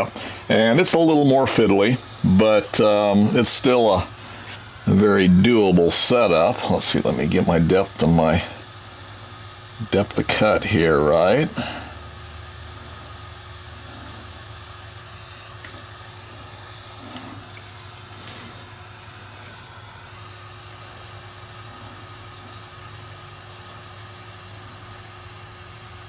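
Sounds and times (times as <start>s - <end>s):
milling machine running: 0.0s - 26.0s.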